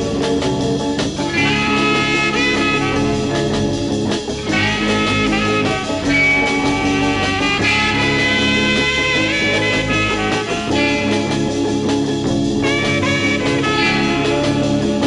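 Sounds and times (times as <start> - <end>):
instrumental swing music: 0.0 - 15.0.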